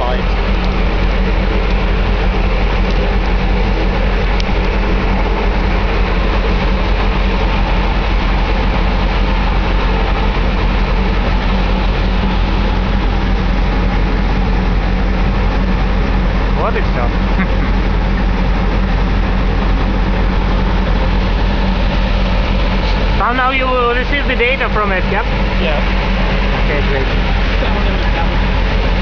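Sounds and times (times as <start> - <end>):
ship engines droning: 0.0 - 29.0.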